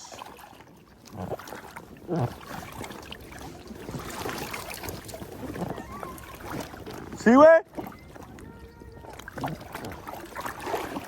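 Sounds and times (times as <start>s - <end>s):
water lapping and splashing: 0.0s - 11.0s.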